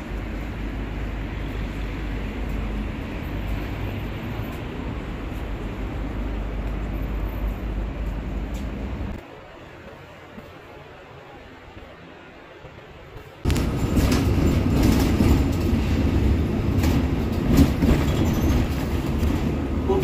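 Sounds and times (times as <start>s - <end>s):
city street noise: 0.0s - 20.0s.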